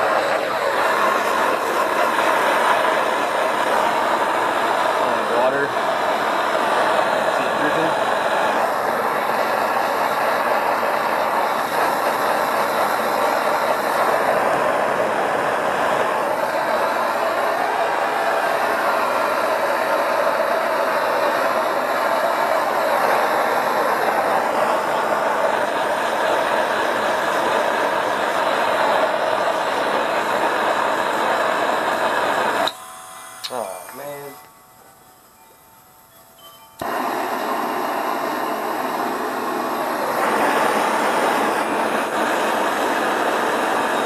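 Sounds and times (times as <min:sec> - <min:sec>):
propane torch hissing: 0:00.0 - 0:44.0.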